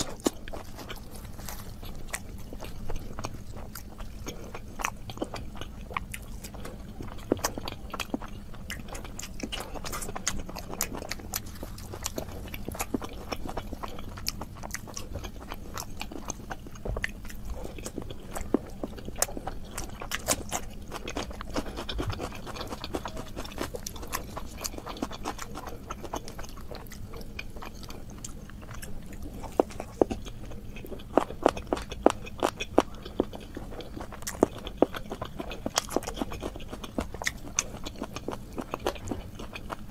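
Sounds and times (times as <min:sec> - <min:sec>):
food crunching: 0:00.0 - 0:39.9
wet chewing: 0:00.0 - 0:39.9.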